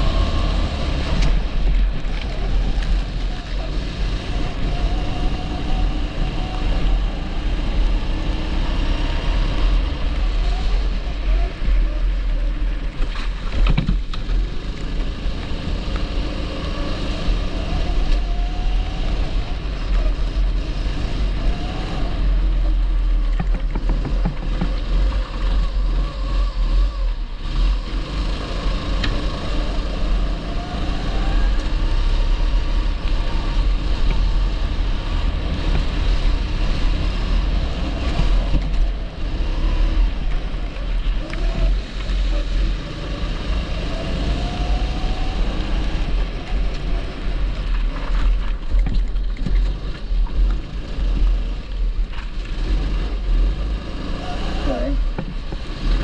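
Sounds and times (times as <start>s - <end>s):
go-kart engine accelerating: 0.0s - 56.0s.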